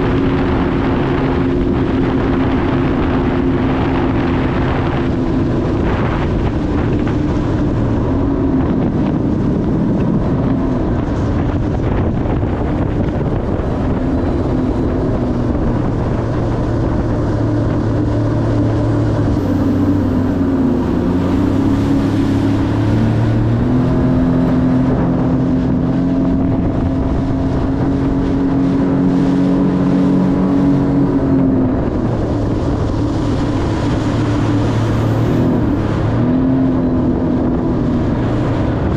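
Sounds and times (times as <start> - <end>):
rushing water: 0.0 - 38.9
watercraft engine drone: 0.0 - 38.9
wind on microphone: 0.0 - 38.9.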